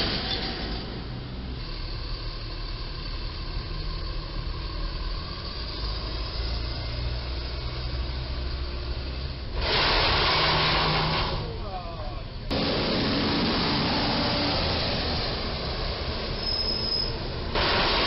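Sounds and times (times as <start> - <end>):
truck engine rumble: 0.0 - 18.0.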